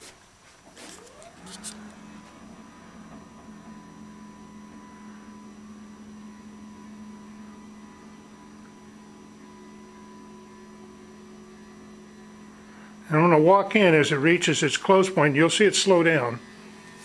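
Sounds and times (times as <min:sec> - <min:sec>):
lift motor humming: 0:00.7 - 0:17.0.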